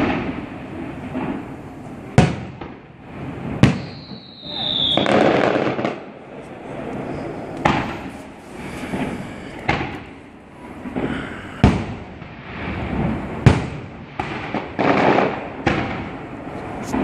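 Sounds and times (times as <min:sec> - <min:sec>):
fireworks bursting: 0:00.0 - 0:17.0
rumbling haze: 0:00.0 - 0:17.0.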